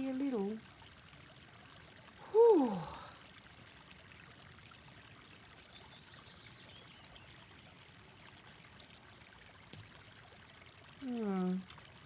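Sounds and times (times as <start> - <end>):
creek water babbling: 0.0 - 12.0.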